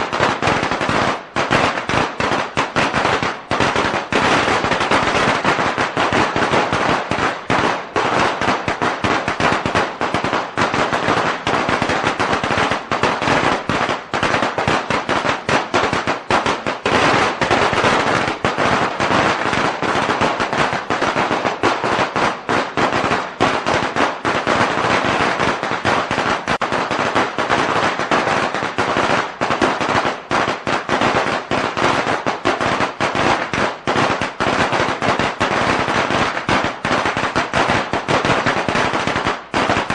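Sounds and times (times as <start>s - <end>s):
firecrackers rattling bangs: 0.0s - 39.9s.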